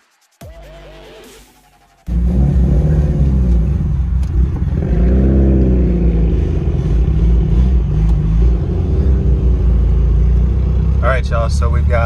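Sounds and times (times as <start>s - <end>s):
car engines rumbling: 2.1s - 12.0s.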